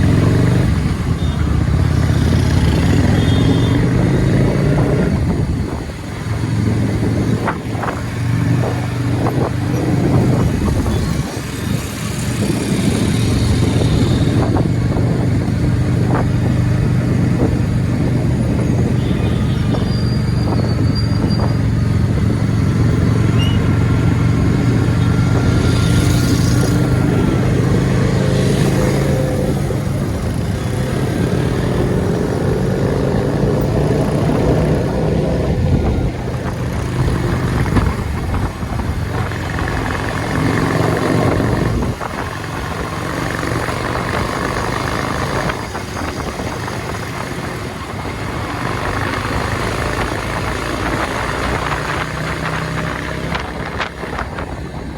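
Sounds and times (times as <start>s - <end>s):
motorcycle engine running: 0.0s - 54.9s
road noise: 0.0s - 54.9s.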